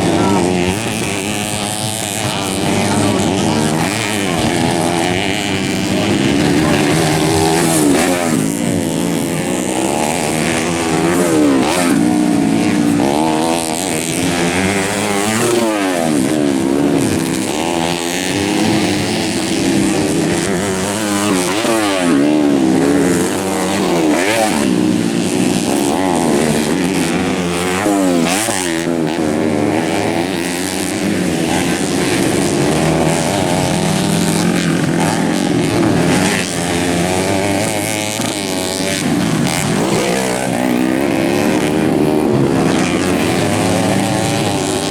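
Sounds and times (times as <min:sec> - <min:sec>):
dirt bike engines racing: 0:00.0 - 0:44.9.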